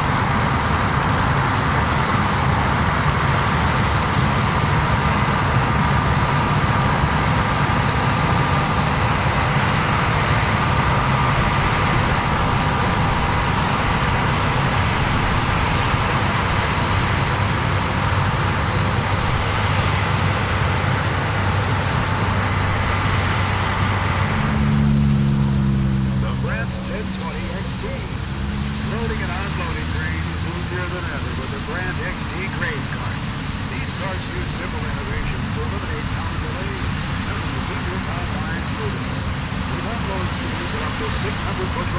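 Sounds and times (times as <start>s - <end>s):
combine harvester running: 0.0s - 41.9s
deep humming engine note: 0.0s - 41.9s.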